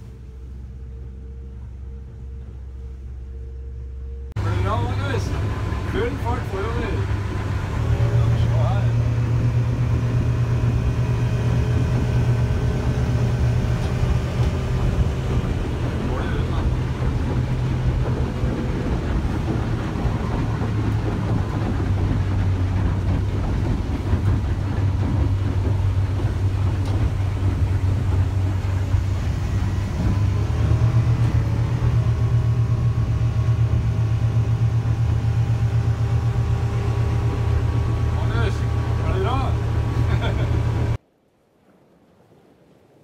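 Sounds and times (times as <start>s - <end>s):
outboard motor droning: 0.0s - 41.0s
water rushing along hull: 0.0s - 43.0s.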